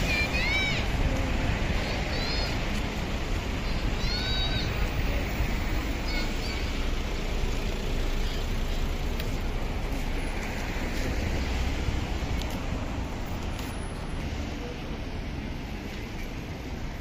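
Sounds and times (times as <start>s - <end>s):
car engines and tyre noise: 0.0s - 17.0s.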